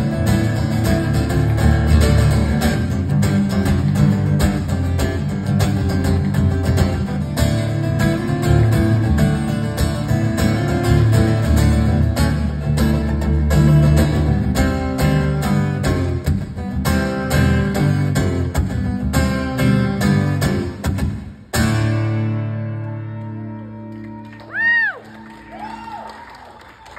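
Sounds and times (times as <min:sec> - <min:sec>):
acoustic guitar strumming: 0:00.0 - 0:24.4.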